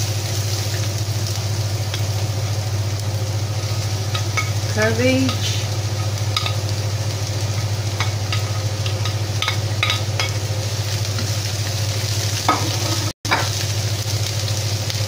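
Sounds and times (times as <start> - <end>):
steady low hum: 0.0 - 13.1
vegetables sizzling in a pan: 0.0 - 15.0.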